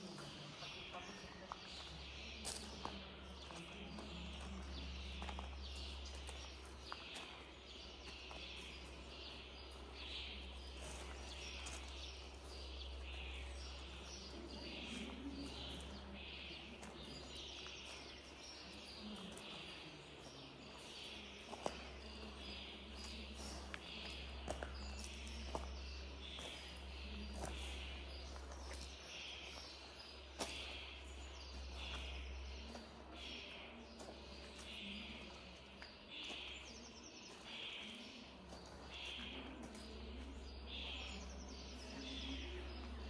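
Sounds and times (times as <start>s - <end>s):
distant voices murmuring: 0.0s - 43.0s
small birds chirping: 0.0s - 43.0s.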